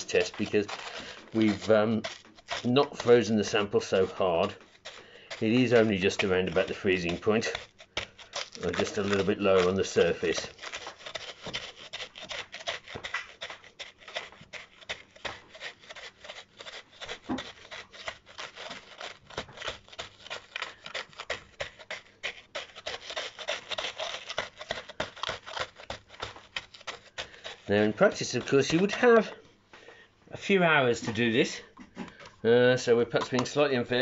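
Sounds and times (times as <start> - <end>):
gritty sand scraping: 0.0 - 29.4, 30.4 - 31.6, 32.4 - 34.0.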